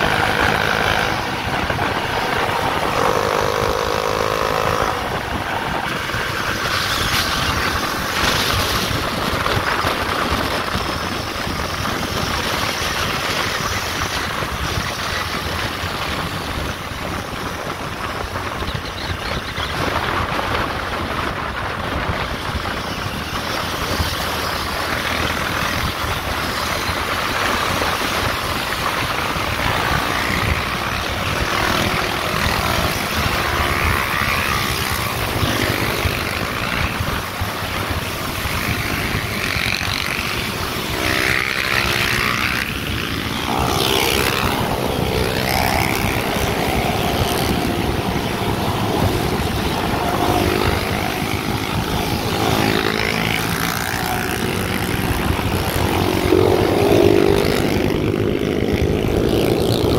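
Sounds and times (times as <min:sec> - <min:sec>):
wind rush: 0:00.0 - 0:59.9.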